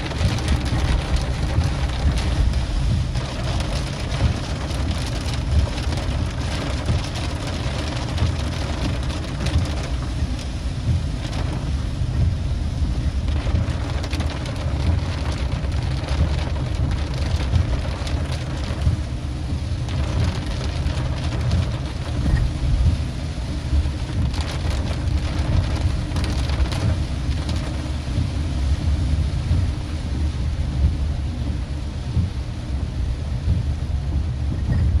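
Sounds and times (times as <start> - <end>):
car rumbling on wet road: 0.0 - 35.0
heavy rain on car windshield: 0.0 - 35.0.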